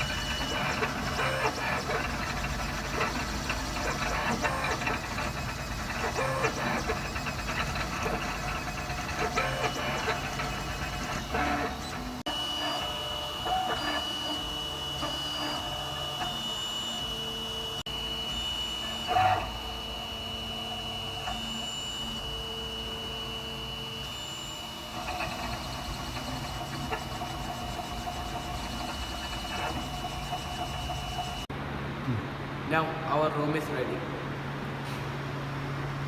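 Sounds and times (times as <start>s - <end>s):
stepper motors whirring: 0.0s - 31.5s.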